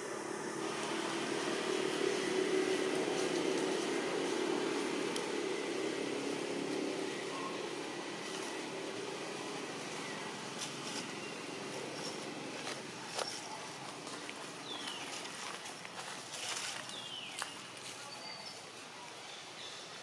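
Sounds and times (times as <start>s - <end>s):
motor hum: 0.0s - 16.1s.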